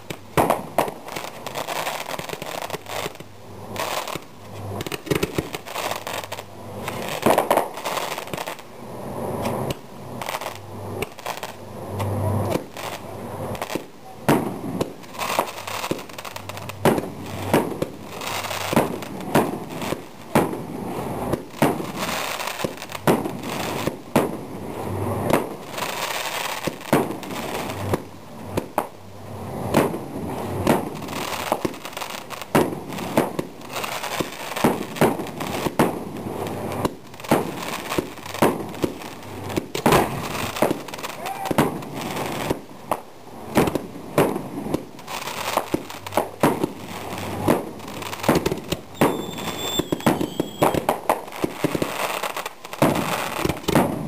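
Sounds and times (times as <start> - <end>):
fireworks bursting with sharp bangs: 0.0 - 54.0
fireworks crackling: 0.0 - 54.0.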